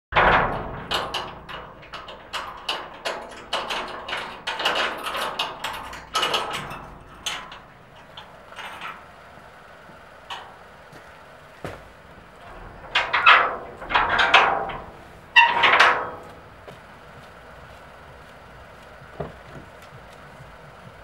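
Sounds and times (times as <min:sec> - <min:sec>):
irregular knocks and clatters: 0:00.1 - 0:21.0.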